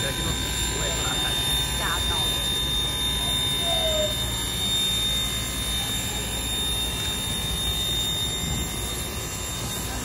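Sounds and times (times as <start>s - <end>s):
faint high whine: 0.0s - 10.0s.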